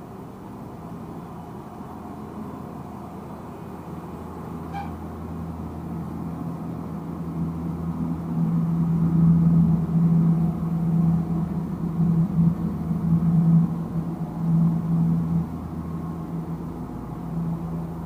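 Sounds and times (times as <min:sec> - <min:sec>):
tram electrical hum: 0:00.0 - 0:18.0.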